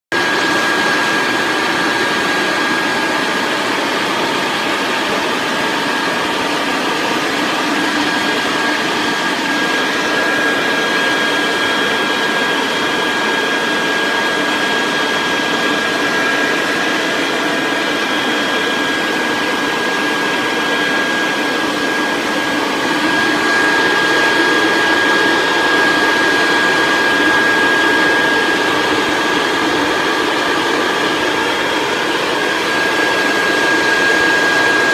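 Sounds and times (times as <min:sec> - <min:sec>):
leaf blower running: 0:00.1 - 0:34.9.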